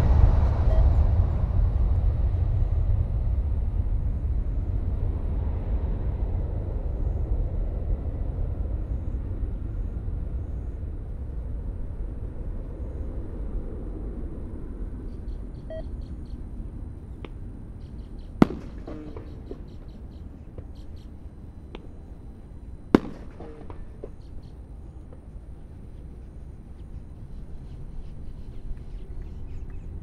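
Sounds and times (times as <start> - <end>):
jet engines rumbling at takeoff: 0.0 - 30.0.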